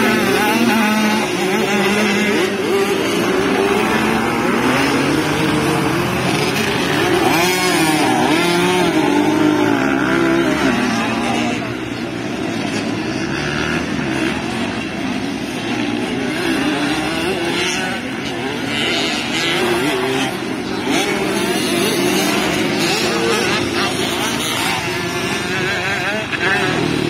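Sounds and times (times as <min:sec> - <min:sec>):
motocross bike engines revving: 0:00.0 - 0:27.0.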